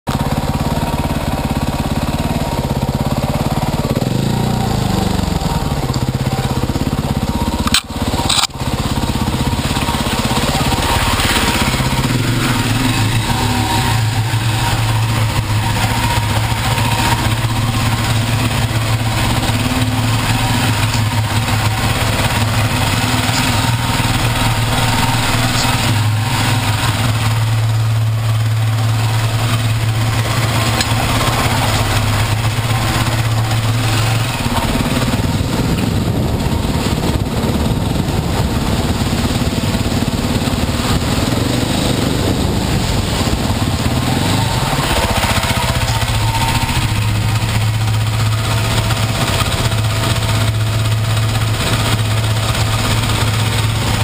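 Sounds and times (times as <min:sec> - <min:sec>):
dirt bike engine: 0:00.1 - 0:54.0.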